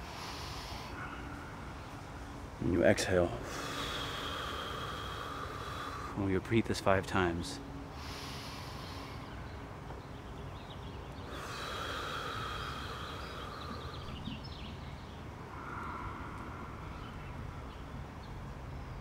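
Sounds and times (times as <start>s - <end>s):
man breathing deeply: 0.0s - 2.4s, 3.1s - 6.5s, 7.6s - 10.0s, 10.6s - 18.5s
steady outdoor hiss: 0.0s - 19.0s.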